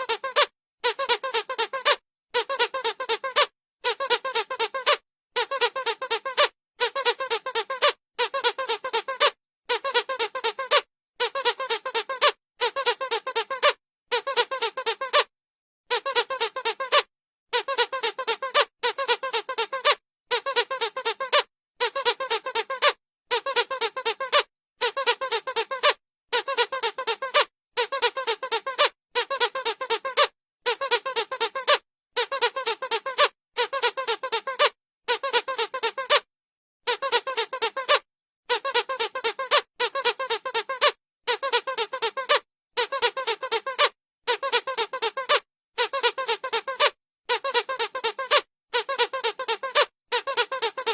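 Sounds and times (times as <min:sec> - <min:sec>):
squeaky dog toy squeaking: 0:00.0 - 0:15.3, 0:15.9 - 0:50.9.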